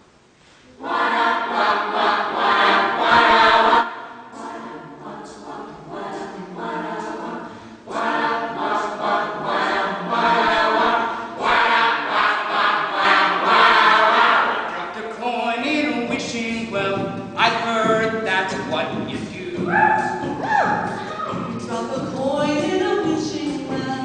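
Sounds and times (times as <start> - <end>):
a cappella group singing: 0.6 - 24.0.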